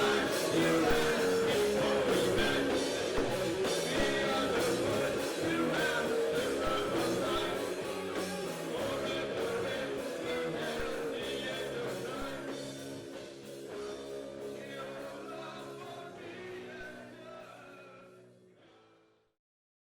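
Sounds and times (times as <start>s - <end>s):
rock band music with singing: 0.0s - 18.4s.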